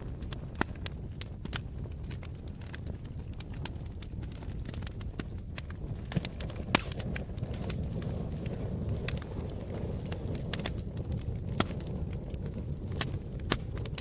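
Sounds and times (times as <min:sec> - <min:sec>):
campfire popping and snapping: 0:00.0 - 0:14.0.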